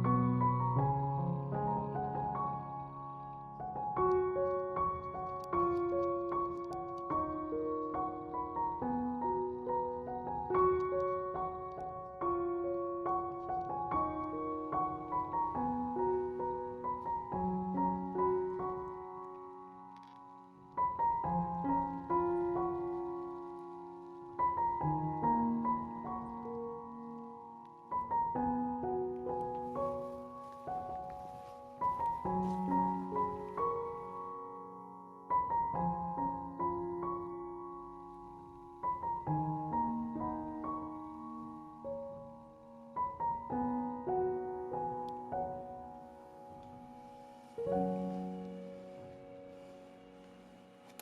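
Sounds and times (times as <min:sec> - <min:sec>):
soft piano chords: 0:00.0 - 0:51.0.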